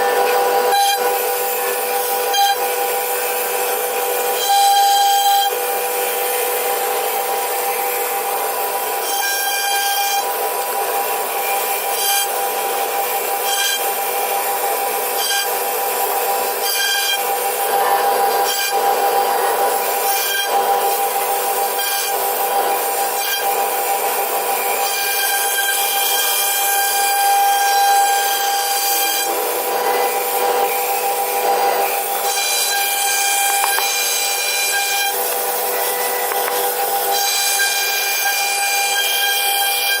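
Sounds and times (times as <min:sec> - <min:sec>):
bit rasping through wood: 0:00.0 - 0:40.0
router spindle high whine: 0:00.0 - 0:40.0.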